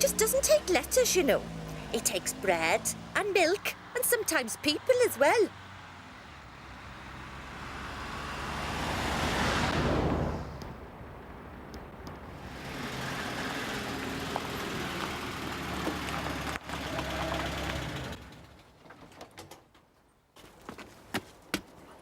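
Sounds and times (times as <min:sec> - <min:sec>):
bus engine running: 0:00.0 - 0:18.8.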